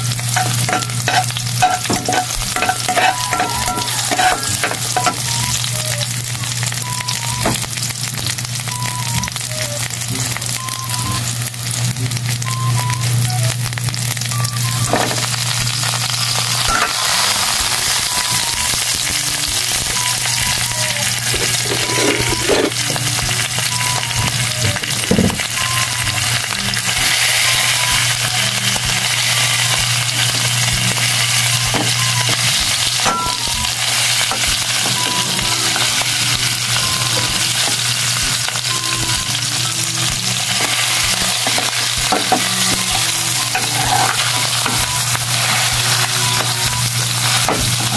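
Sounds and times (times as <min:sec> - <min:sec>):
garlic and onion sizzling in oil: 0:00.0 - 0:47.9.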